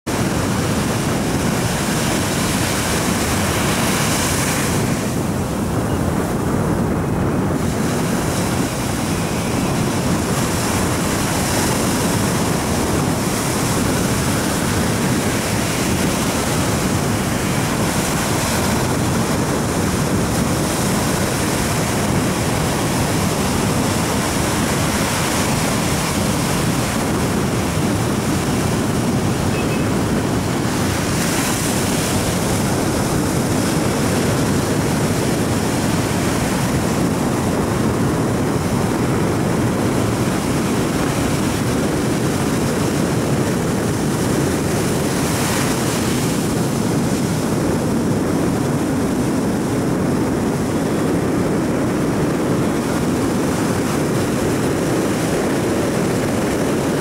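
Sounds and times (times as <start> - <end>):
sea surf rushing: 0.1 - 57.0
wind buffeting microphone: 0.1 - 57.0.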